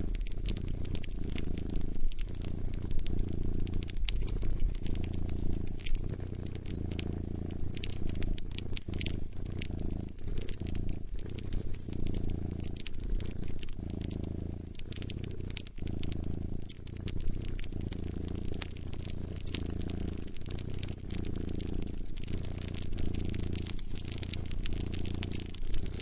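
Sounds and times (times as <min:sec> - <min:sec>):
cat purring: 0:00.0 - 0:26.0
wood fire crackling: 0:00.0 - 0:26.0.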